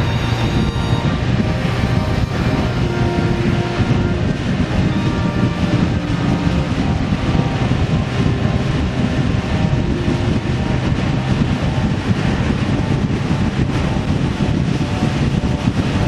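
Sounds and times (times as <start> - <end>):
vehicle engine running: 0.0 - 16.0
wind noise on microphone: 0.0 - 16.0.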